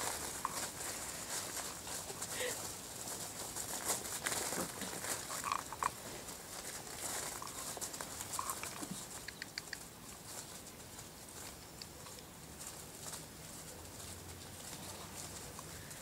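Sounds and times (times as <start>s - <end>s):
footsteps in dry leaves: 0.0s - 9.2s, 9.8s - 16.0s
paws rustling in dry leaves: 0.0s - 16.0s.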